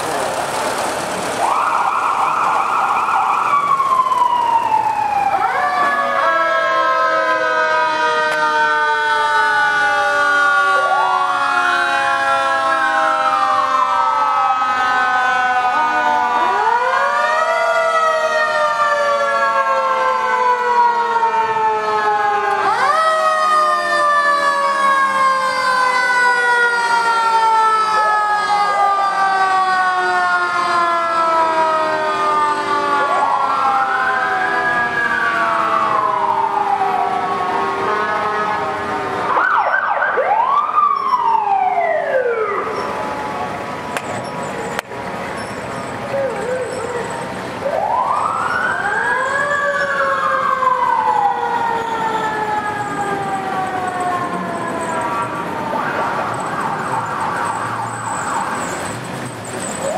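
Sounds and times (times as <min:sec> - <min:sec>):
sirens wailing: 0:00.0 - 0:59.9.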